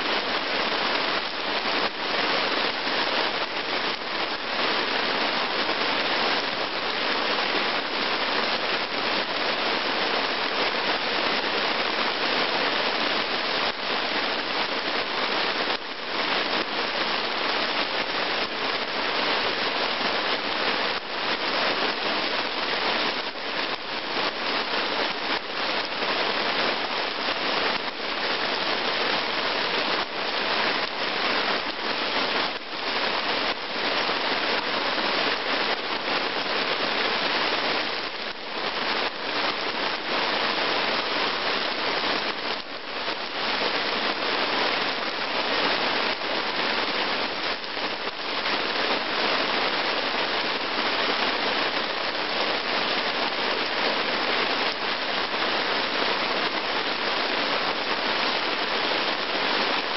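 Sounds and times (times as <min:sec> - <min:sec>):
heavy rain on puddles: 0:00.0 - 0:59.9.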